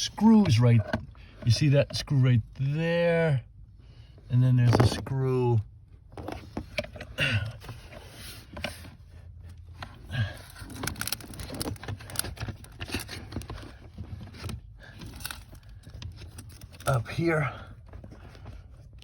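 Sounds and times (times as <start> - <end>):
tools handling car parts: 0.0 - 2.8, 4.4 - 19.0.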